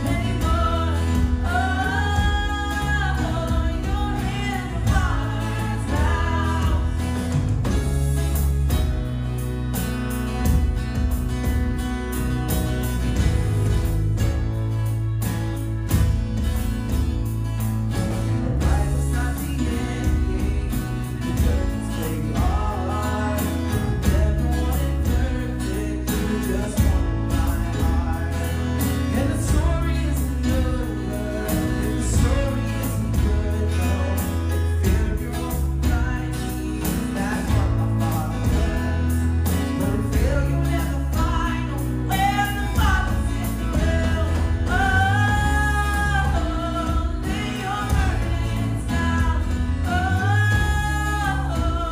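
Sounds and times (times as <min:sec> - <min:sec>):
person singing: 0:00.0 - 0:08.4, 0:18.4 - 0:51.9
bass line: 0:00.0 - 0:51.9
guitar: 0:00.0 - 0:51.9.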